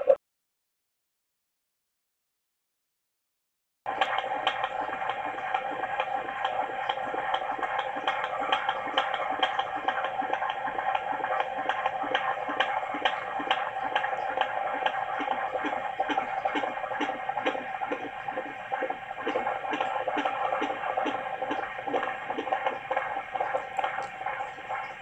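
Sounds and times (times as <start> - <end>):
fetal heartbeat through doppler: 3.9 - 25.0.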